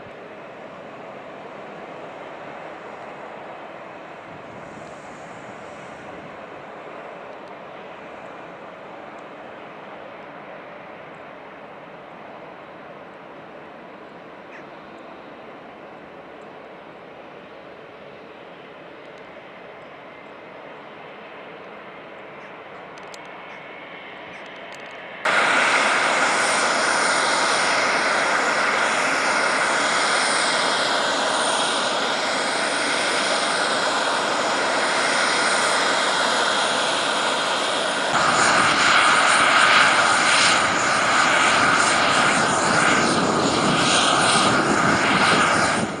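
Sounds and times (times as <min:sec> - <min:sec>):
jet engine roaring: 0:00.0 - 0:11.9, 0:20.7 - 0:46.0.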